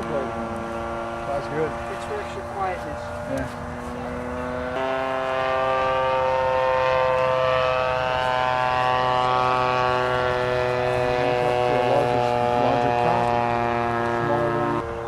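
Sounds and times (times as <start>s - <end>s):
model airplane motor droning: 0.0s - 15.0s.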